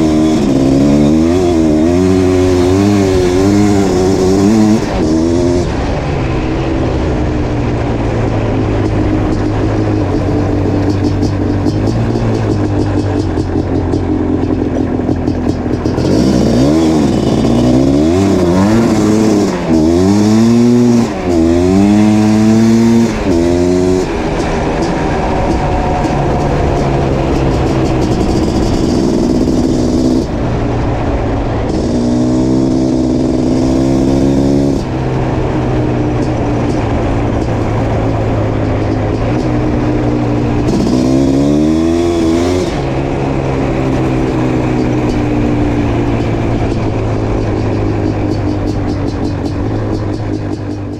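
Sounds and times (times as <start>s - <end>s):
two-stroke engine revving: 0.0s - 50.9s.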